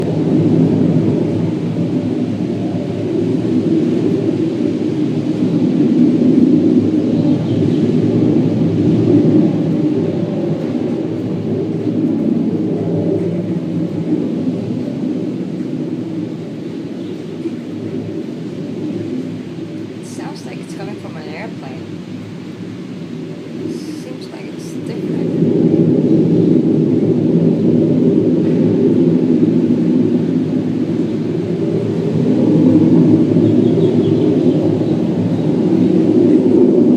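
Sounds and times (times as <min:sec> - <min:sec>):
low droning rumble from sky: 0:00.0 - 0:36.9.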